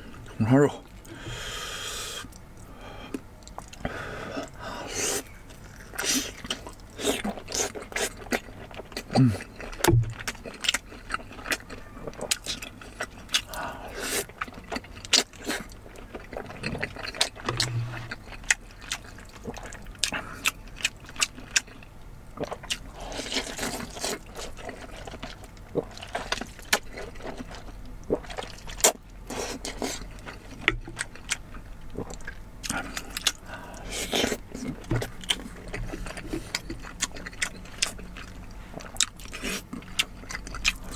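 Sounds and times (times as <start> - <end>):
wet chewing and mouth noises: 0.0 - 40.9.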